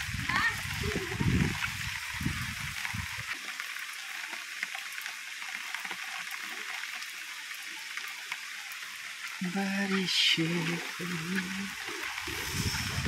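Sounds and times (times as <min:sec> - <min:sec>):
heavy rain on pavement and leaves: 0:00.0 - 0:13.0.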